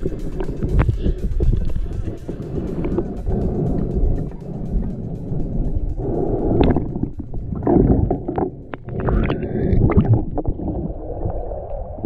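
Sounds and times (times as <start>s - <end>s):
water sloshing and gurgling: 0.0s - 12.0s.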